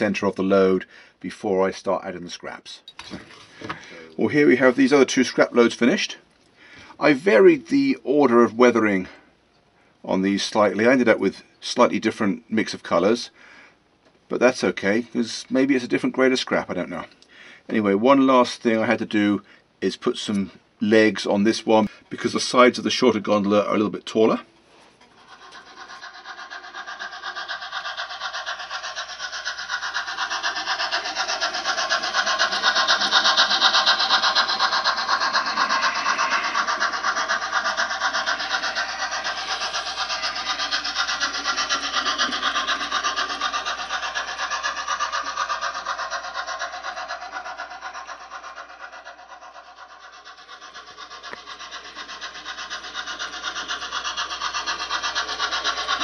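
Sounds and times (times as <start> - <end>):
model train rattling on track: 0.0 - 6.2, 6.9 - 9.2, 10.1 - 13.3, 14.3 - 56.0.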